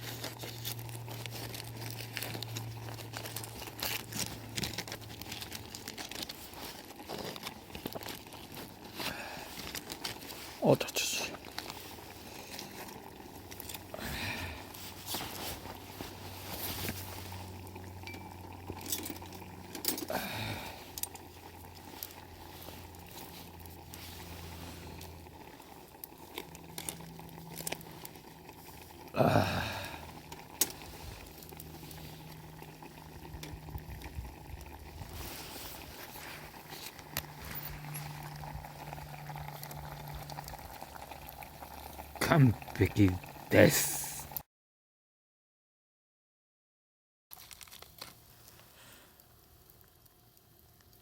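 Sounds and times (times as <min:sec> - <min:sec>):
soup simmering: 0:00.0 - 0:44.4.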